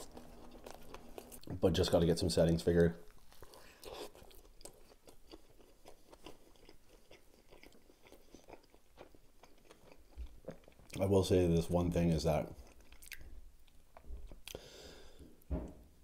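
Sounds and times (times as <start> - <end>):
chewing with small crunches: 0.0 - 11.2, 12.3 - 14.8.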